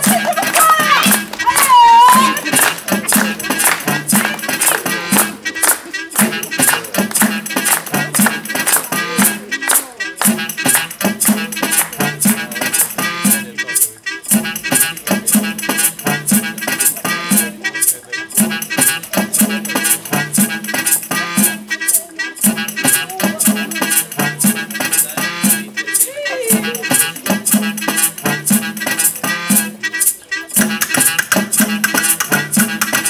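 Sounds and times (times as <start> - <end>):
live music with percussive beat: 0.0 - 33.0.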